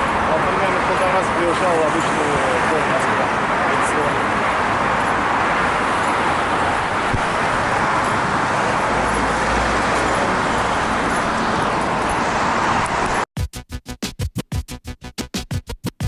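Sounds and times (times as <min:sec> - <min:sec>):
road traffic rushing past: 0:00.0 - 0:13.3.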